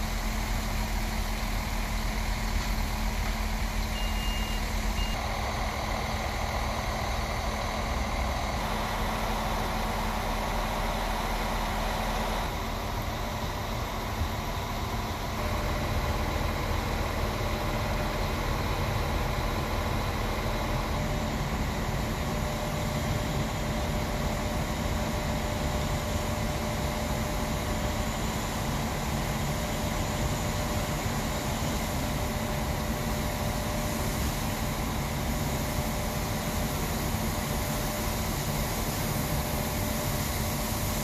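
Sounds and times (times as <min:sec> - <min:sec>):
train rumble and hiss: 0:00.0 - 0:41.0.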